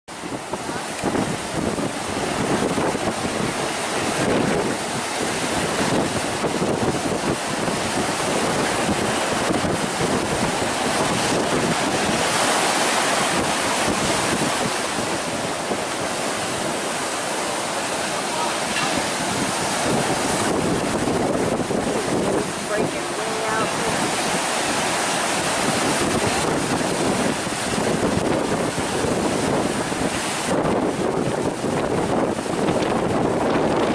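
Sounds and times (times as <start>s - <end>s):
surf breaking: 0.1s - 33.9s
wind buffeting microphone: 0.1s - 33.9s.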